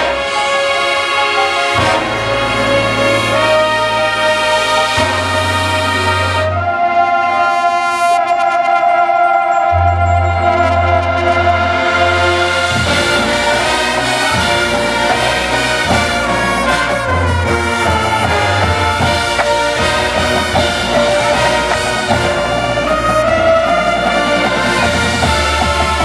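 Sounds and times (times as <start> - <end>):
bugles playing: 0.0 - 26.0
mallet keyboards: 0.0 - 26.0.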